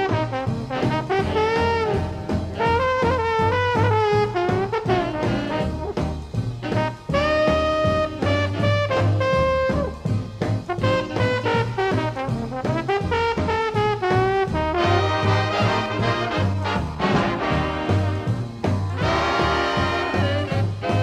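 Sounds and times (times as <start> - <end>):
swing music with brass horns: 0.0 - 21.0.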